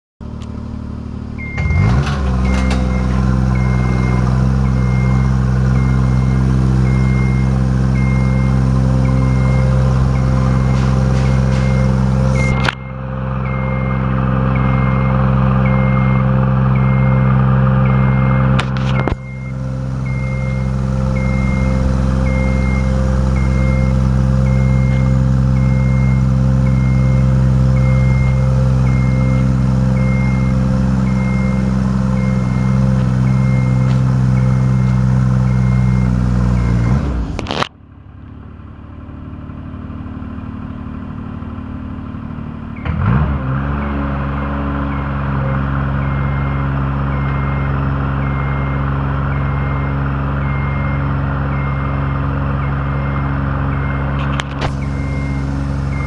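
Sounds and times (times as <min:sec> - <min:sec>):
scissor lift engine running: 0:00.2 - 0:43.0, 0:44.8 - 0:56.0
motion alarm beeping: 0:01.4 - 0:37.0, 0:46.0 - 0:56.0.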